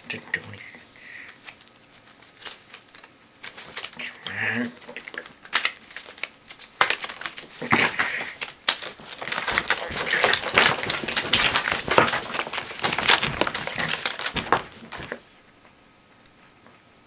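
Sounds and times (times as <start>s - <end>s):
playing cards being shuffled: 0.1s - 15.3s.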